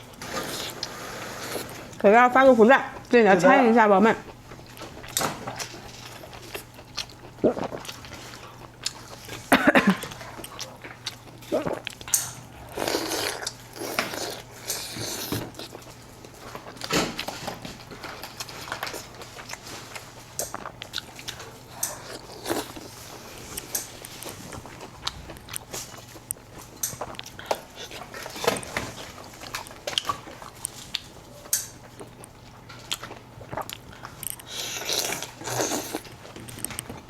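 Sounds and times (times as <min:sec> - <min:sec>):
faint steady hum: 0:00.0 - 0:37.0
person chewing and biting: 0:04.6 - 0:09.5, 0:10.1 - 0:17.3, 0:18.1 - 0:31.1, 0:31.8 - 0:37.0.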